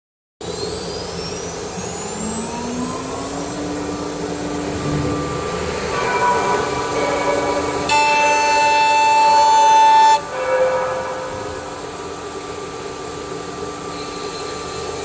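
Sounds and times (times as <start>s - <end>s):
router machine whining: 0.5s - 12.5s.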